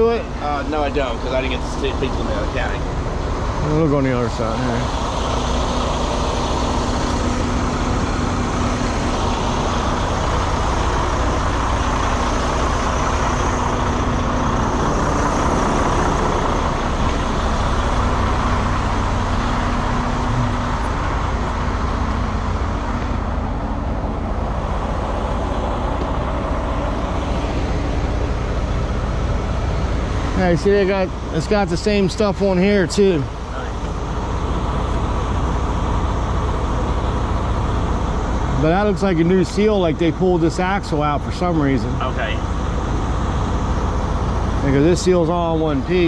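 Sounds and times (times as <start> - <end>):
heavy trucks rumbling: 0.0 - 46.0
steady hum: 0.0 - 46.0.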